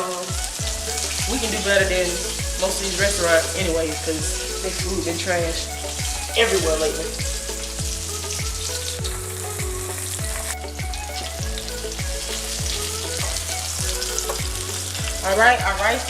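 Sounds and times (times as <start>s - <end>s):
chicken sizzling in grease: 0.0s - 16.0s
hip-hop music with bass beat: 0.0s - 16.0s.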